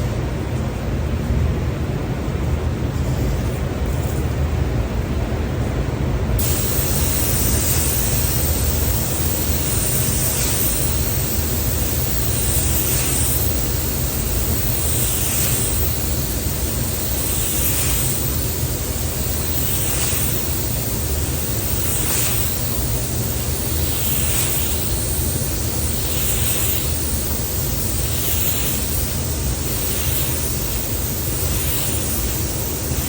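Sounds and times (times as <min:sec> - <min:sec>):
paint spray gun hissing: 0:06.4 - 0:33.0.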